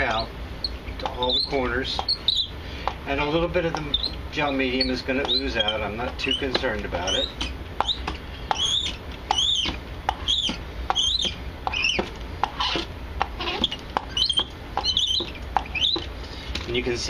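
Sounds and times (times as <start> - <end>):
hand roller squeaking: 0.0 - 16.6.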